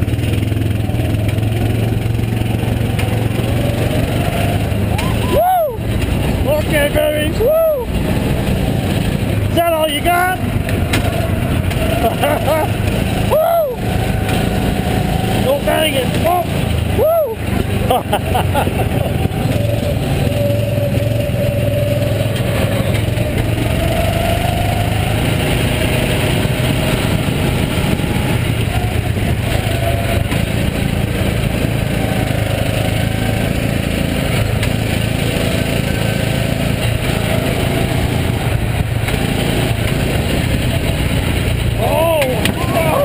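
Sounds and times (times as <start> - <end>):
another kart engine: 0.0 - 43.0
go-kart engine running: 0.0 - 43.0.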